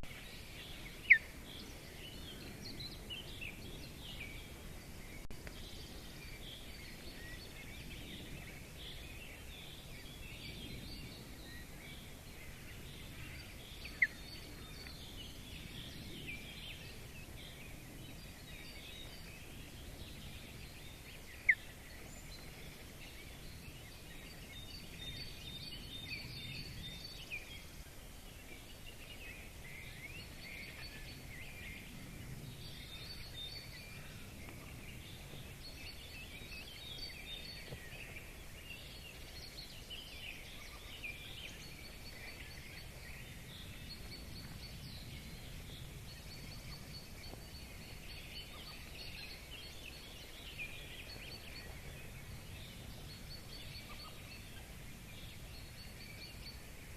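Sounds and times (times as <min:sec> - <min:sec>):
birds singing and chirping: 0:00.0 - 0:56.9.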